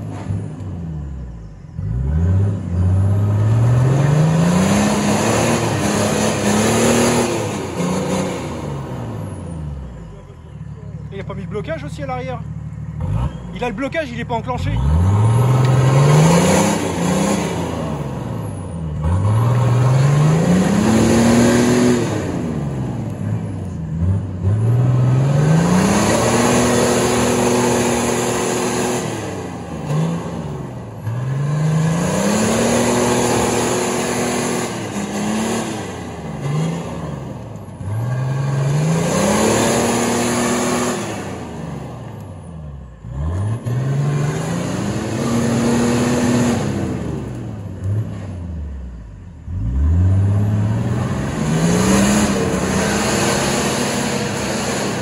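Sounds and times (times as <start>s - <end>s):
engine revving hard: 1.8s - 8.9s, 14.6s - 42.0s, 43.0s - 48.4s, 49.5s - 55.0s.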